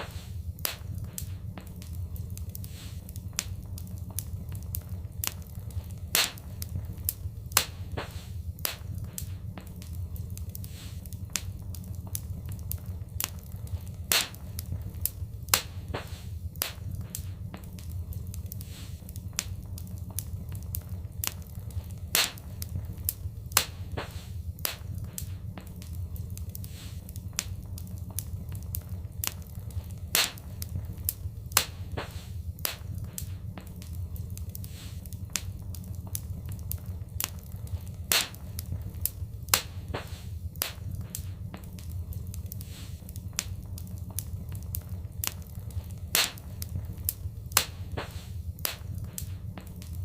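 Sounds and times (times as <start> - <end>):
low rumble of burning fire: 0.0 - 50.0
sharp pops and snaps: 0.0 - 50.0
wood fire crackling: 0.0 - 50.0.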